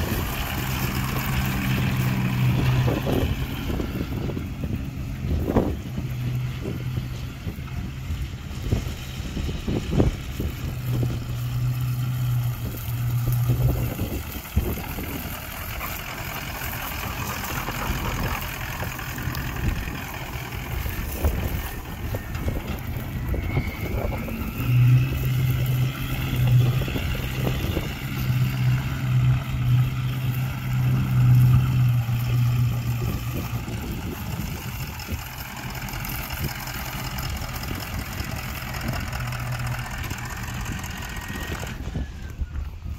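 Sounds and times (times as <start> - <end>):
pickup engine running: 0.0 - 42.9.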